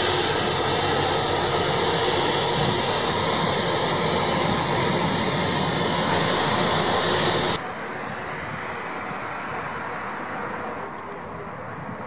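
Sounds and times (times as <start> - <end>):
jet engines hissing and whining: 0.0 - 11.8.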